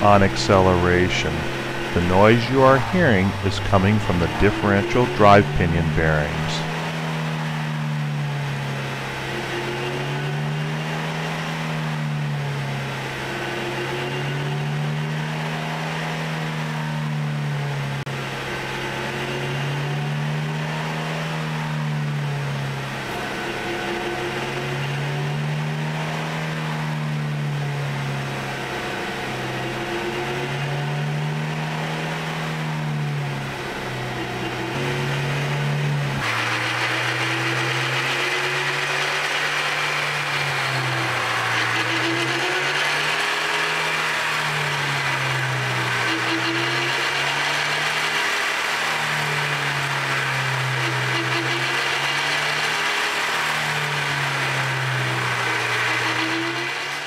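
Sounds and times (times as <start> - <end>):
bearing whine: 0.0 - 57.0.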